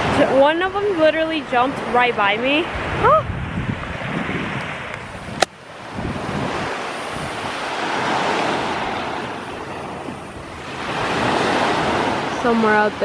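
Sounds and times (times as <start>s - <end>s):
waves washing onto shore: 0.0s - 13.0s.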